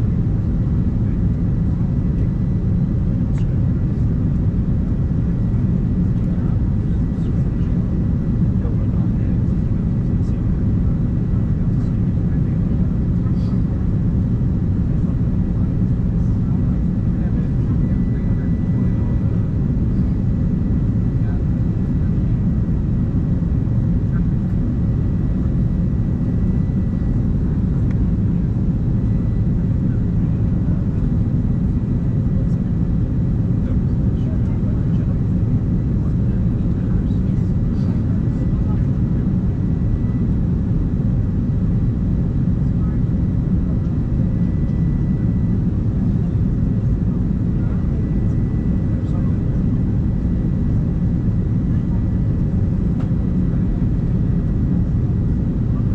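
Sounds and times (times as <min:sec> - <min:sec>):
aircraft cabin rumble: 0:00.0 - 0:55.9.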